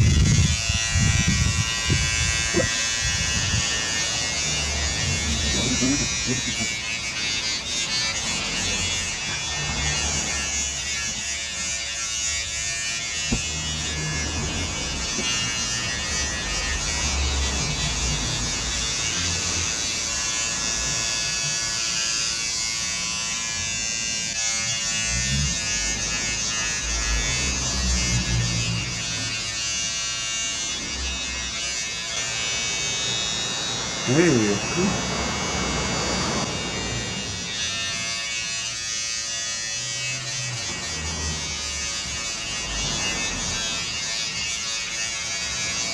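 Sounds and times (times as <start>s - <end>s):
electric hair clippers buzzing: 0.0s - 45.9s.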